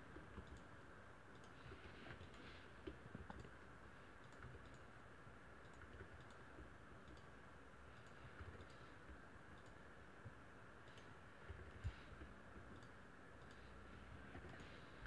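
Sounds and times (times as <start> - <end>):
computer keyboard and mouse clicks: 0.0 - 5.0, 5.6 - 9.8, 10.8 - 14.8.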